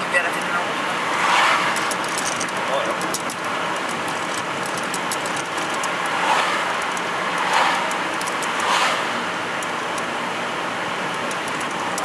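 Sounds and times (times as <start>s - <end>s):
cars passing whoosh: 0.0s - 12.0s
road and tyre noise: 0.0s - 12.0s.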